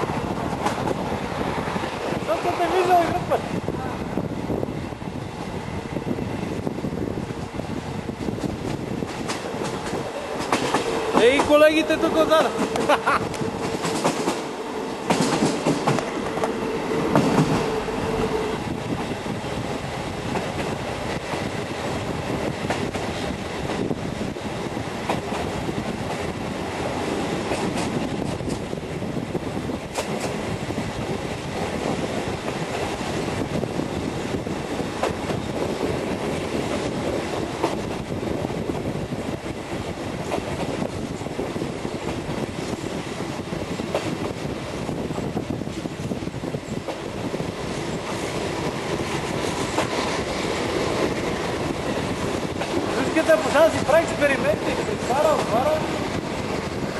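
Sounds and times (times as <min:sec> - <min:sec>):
train wheels rolling: 0:00.0 - 0:56.9.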